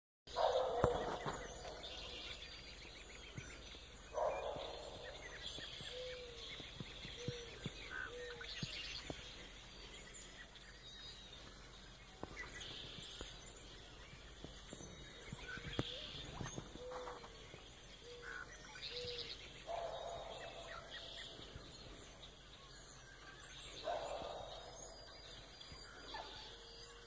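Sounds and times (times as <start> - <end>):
birds calling and singing: 0.3 - 27.0.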